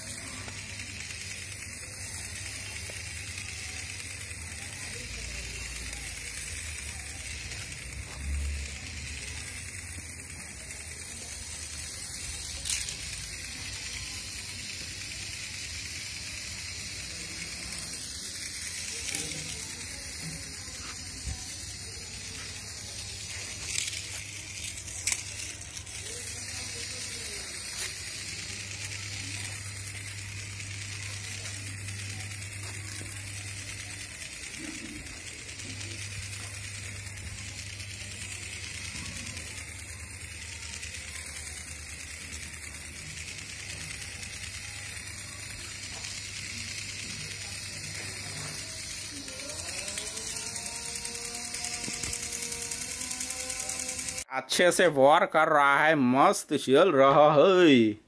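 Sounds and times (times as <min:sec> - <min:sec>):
toy motor whirring and rattling: 0:00.0 - 0:58.0.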